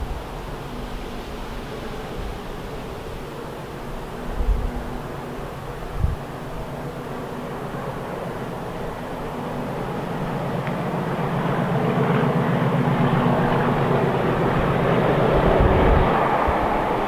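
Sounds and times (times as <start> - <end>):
diesel locomotive engine: 0.0 - 17.0.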